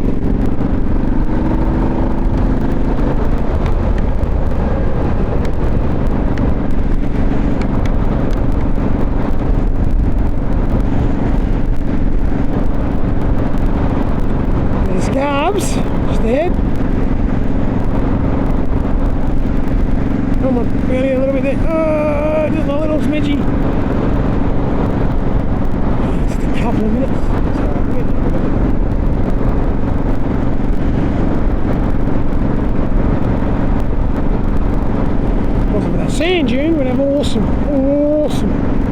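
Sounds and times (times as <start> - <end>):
motorcycle engine cruising: 0.0 - 38.9
road rumble: 0.0 - 38.9
wind buffeting microphone: 0.0 - 38.9.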